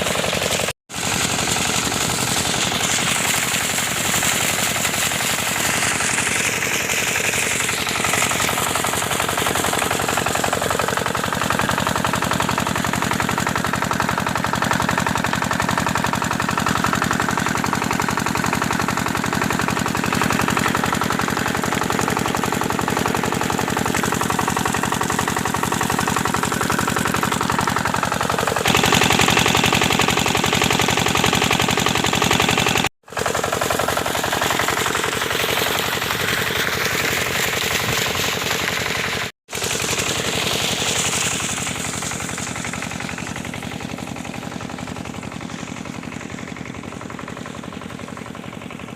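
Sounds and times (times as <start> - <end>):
water pump engine running: 0.0 - 48.9.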